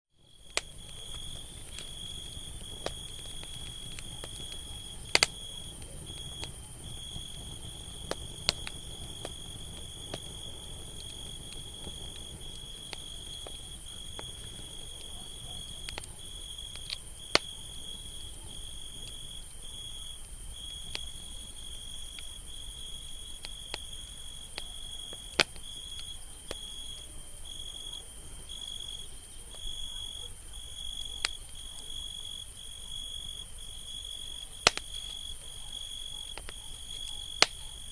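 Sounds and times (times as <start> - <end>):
insect trill: 0.2 - 37.9
campfire crackling and popping: 0.3 - 37.9.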